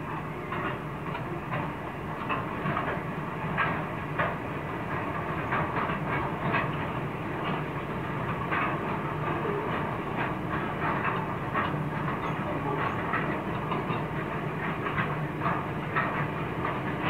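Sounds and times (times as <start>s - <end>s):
diesel locomotive engine drone: 0.0s - 17.0s
train wheels clacking over rail joints: 0.0s - 17.0s.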